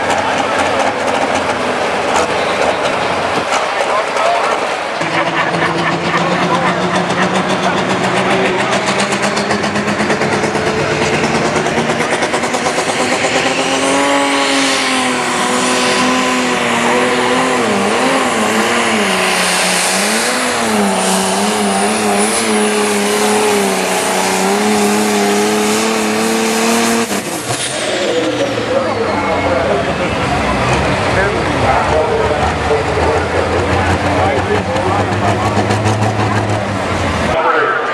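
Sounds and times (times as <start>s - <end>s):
diesel engine at high revs: 0.0s - 37.9s.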